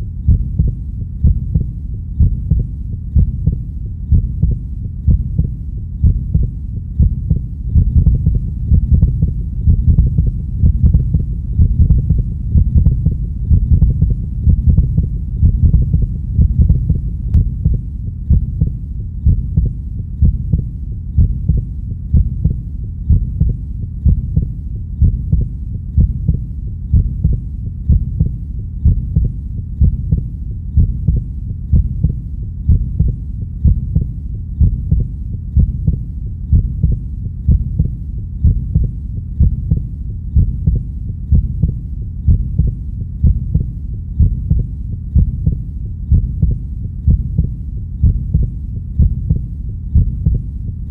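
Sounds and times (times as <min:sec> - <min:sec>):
heartbeat thumps: 0:00.0 - 0:50.9
low rumble: 0:00.0 - 0:50.9.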